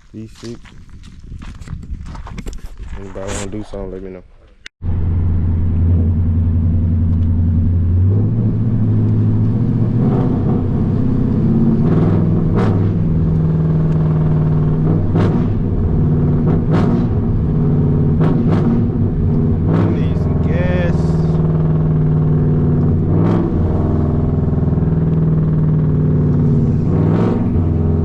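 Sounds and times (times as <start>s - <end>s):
car engine running: 4.8s - 28.0s.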